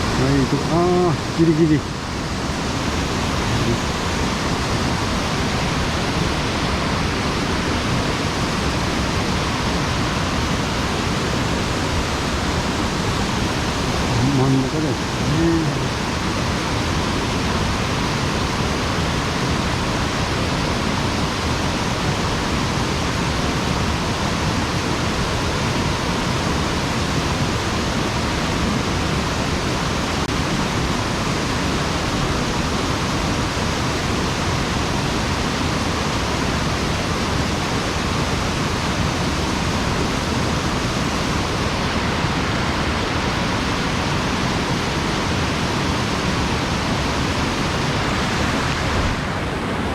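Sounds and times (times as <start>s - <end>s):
stream water rushing over dam: 0.0s - 49.9s.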